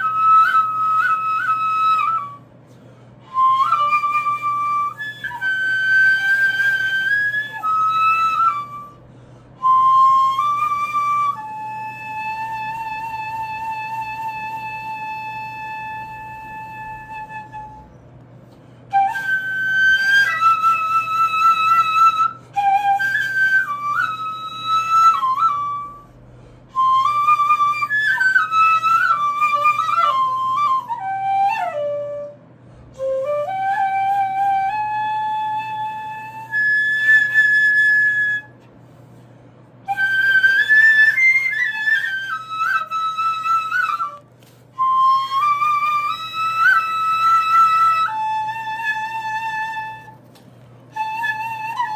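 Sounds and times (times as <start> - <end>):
stone flute melody: 0.0 - 51.9.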